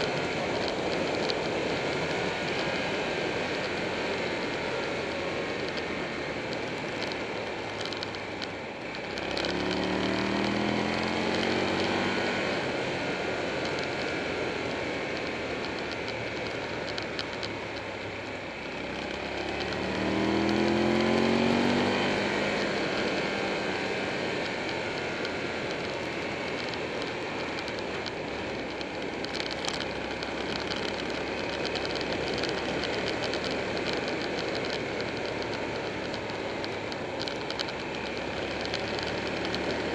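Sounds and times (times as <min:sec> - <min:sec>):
motorcycle engine accelerating: 0:00.0 - 0:39.9
road noise: 0:00.0 - 0:39.9.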